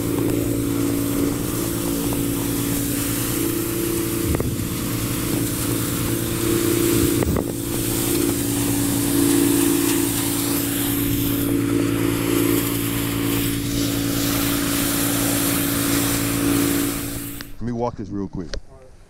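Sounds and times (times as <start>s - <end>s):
high-pressure spray hissing on bricks: 0.0s - 17.6s
pressure washer engine drone: 0.0s - 17.7s.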